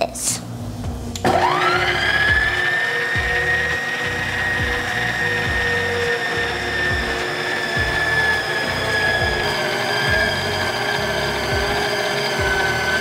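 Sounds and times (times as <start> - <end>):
stand mixer motor whine: 1.2 - 13.0.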